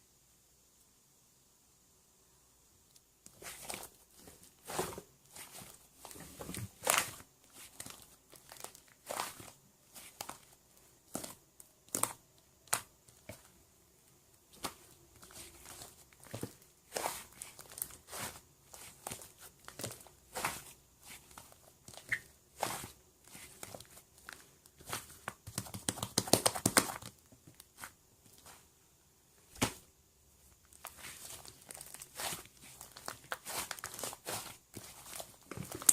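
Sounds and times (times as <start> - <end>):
crinkling and rustling handling: 2.9 - 35.9.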